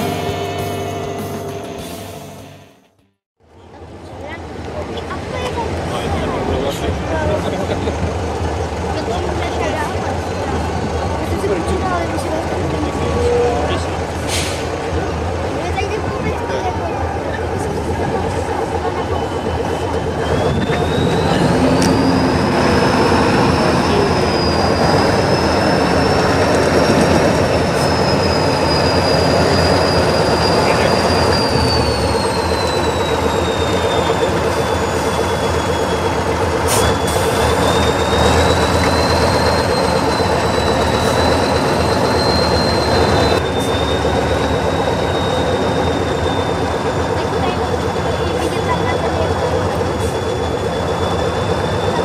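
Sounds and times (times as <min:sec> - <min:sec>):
diesel truck engine under load: 0:03.4 - 0:52.0.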